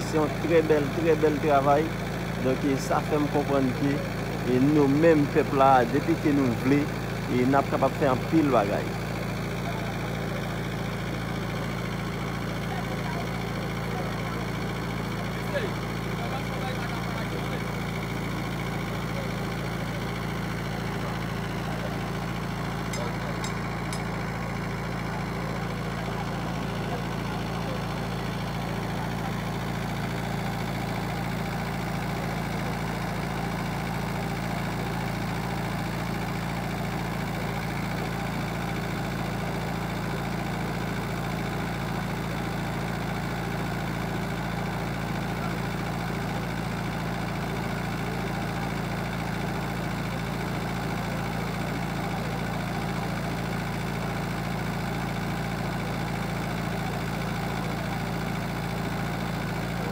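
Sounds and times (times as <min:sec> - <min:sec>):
tractor engine running steadily: 0:00.0 - 0:59.9.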